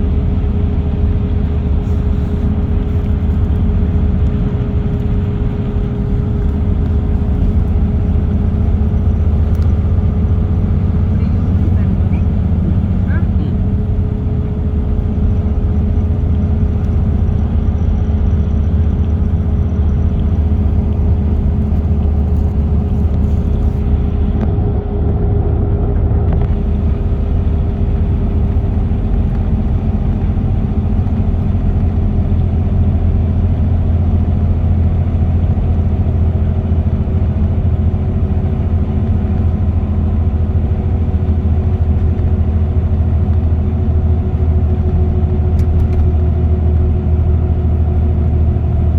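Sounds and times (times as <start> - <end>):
car tyre and engine rumble: 0.0 - 48.9.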